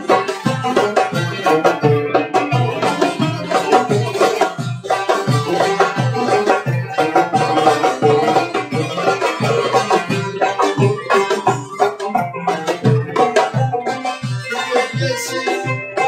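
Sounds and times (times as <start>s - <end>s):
sustained folk melody: 0.0s - 16.0s.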